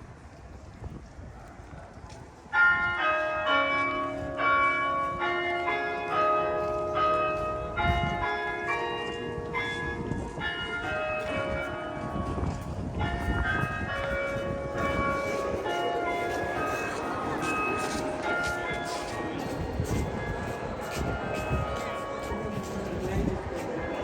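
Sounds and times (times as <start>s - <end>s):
church bells ringing: 2.4s - 24.0s.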